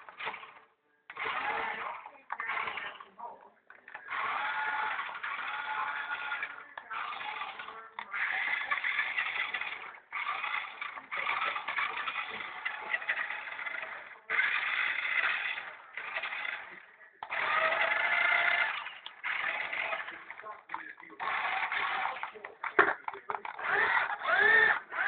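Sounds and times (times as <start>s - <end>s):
small electric motor whirring: 0.0s - 3.2s, 3.8s - 25.0s.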